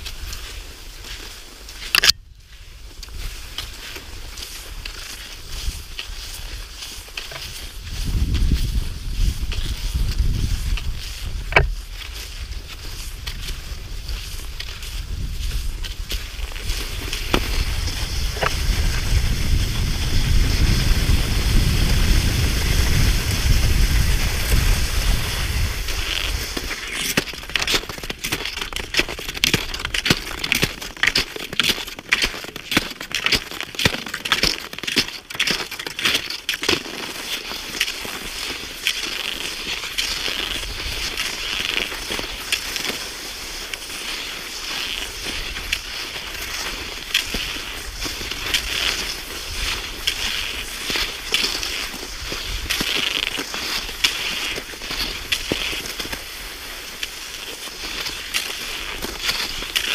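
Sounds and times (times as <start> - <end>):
footsteps crunching in snow: 0.0 - 59.9.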